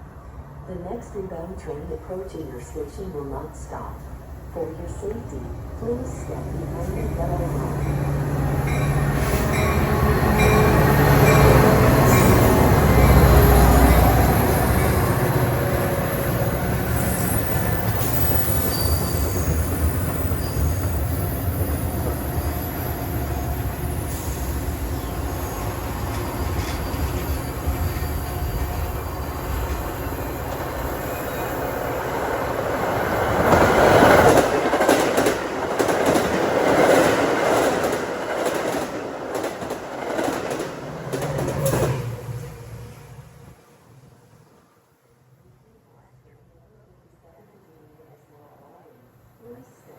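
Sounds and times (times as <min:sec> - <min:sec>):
train rumbling past: 0:00.0 - 0:45.5.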